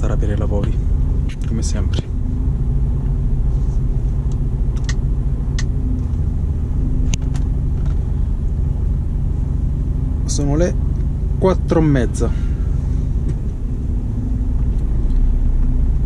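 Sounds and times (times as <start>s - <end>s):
truck diesel engine rumble: 0.0s - 16.0s.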